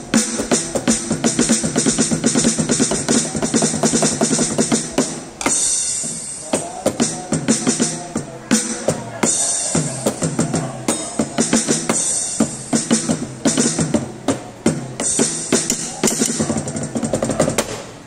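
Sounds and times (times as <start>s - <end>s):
electronic drum kit playing: 0.0s - 18.0s.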